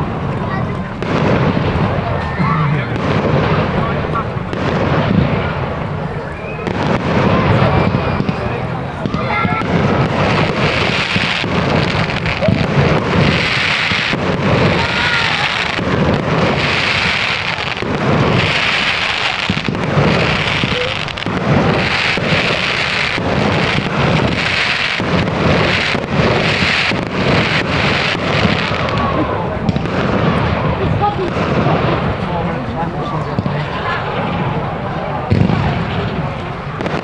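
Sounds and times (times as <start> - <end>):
firework bangs and booms: 0.0 - 37.0
fireworks crackling: 0.0 - 37.0.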